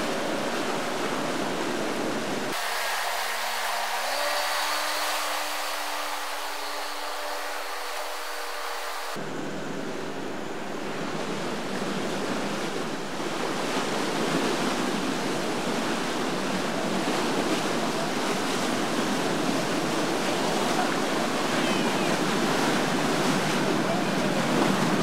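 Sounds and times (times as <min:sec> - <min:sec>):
churning water and boat wake: 0:00.0 - 0:25.0.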